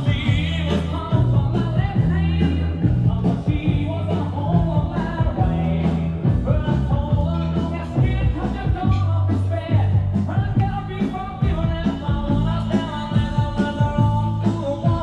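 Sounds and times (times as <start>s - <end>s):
rock and roll music with singing: 0.0s - 15.0s.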